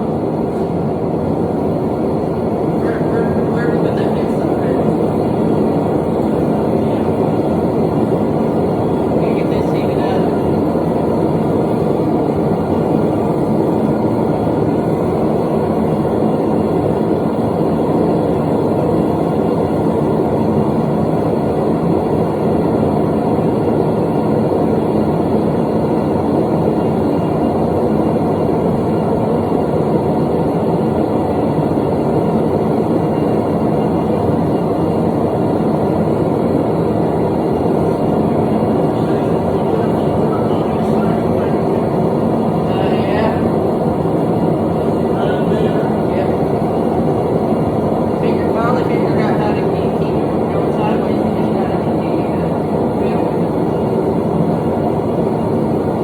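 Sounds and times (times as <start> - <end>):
forge burner rushing: 0.0 - 56.0.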